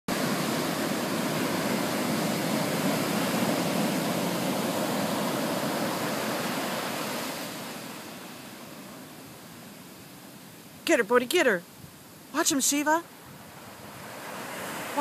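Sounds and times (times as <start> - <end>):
ocean surf breaking: 0.1 - 10.8, 12.3 - 15.0.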